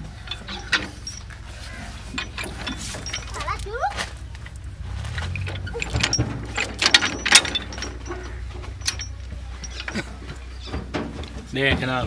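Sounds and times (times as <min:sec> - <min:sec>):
metal hitch clinking and rattling: 0:00.0 - 0:12.0
tractor engine humming: 0:00.0 - 0:12.0.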